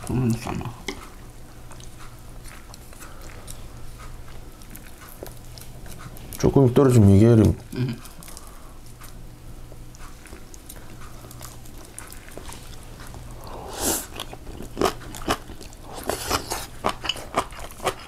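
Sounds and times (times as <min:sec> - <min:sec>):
person chewing crunchy food: 0:00.1 - 0:18.0.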